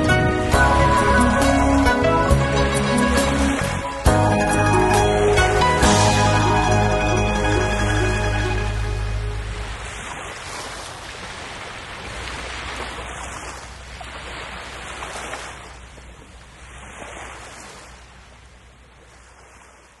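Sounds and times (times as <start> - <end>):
sea water washing in swells: 0.0 - 20.0.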